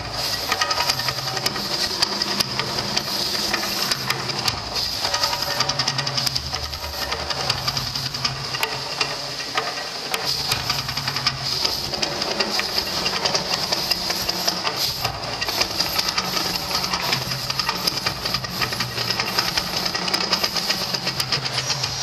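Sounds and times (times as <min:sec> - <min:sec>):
gas fire hiss and crackle: 0:00.0 - 0:22.0.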